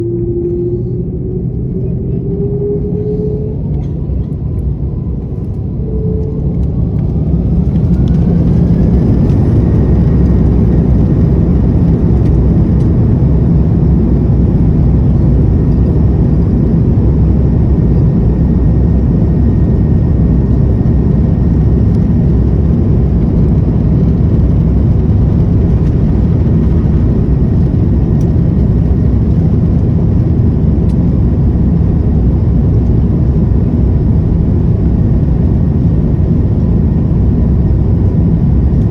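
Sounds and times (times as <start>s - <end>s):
jet engine whine: 0.0s - 38.9s
takeoff roll rumble: 0.0s - 38.9s.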